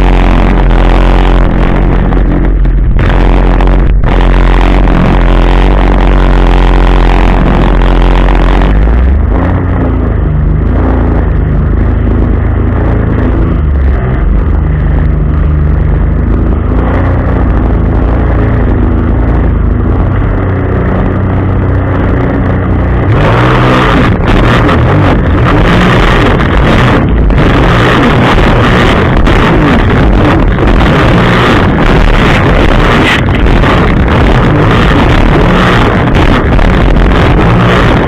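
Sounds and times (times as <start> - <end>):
rush of wind and water spray: 0.0 - 10.0, 10.7 - 38.0
watercraft engine revving: 0.0 - 38.0.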